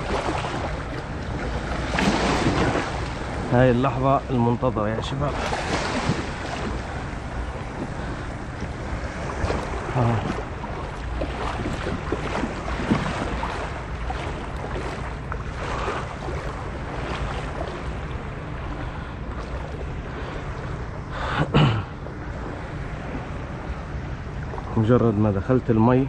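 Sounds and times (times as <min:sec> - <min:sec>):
wind on microphone: 0:00.0 - 0:24.9
waves lapping against kayak hull: 0:00.0 - 0:25.8.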